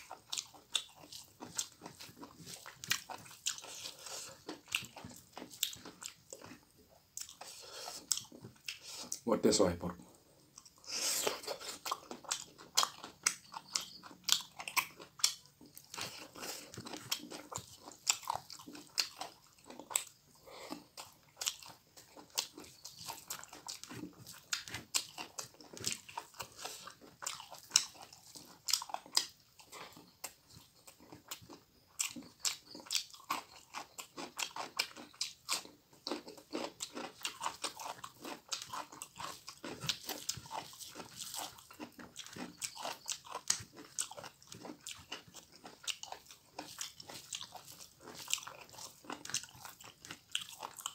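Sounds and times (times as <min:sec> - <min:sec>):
chewing and crunching food: 0:00.0 - 0:50.9.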